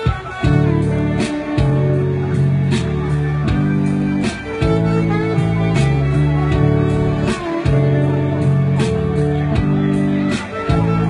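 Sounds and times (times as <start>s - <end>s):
accompaniment with steady beat: 0.0s - 11.0s.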